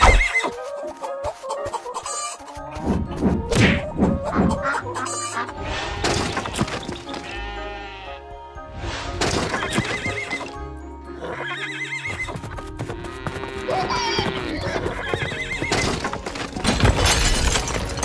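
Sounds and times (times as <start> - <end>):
cartoon background music: 0.0 - 18.0.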